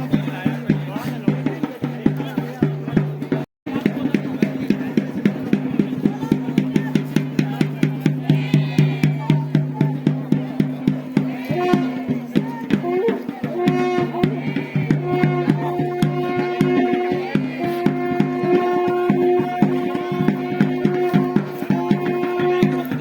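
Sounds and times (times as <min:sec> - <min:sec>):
drums beating fast rhythm: 0:00.0 - 0:23.0.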